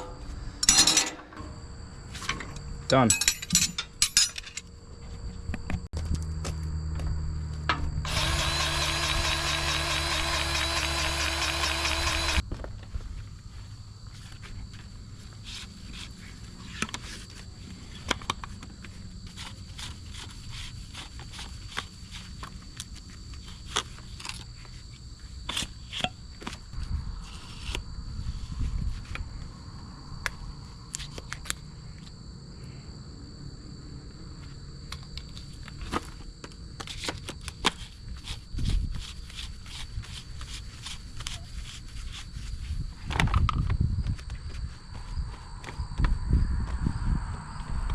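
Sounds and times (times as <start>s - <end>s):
high drone of insects: 0.0s - 47.9s.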